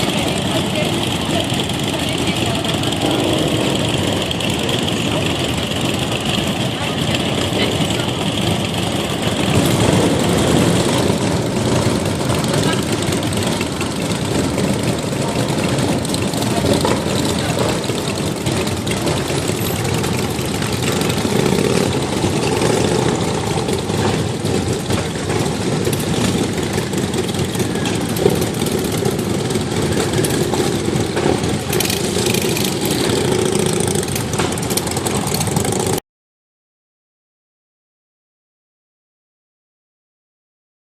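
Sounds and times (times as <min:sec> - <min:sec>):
motorcycle engines idling: 0:00.0 - 0:36.0.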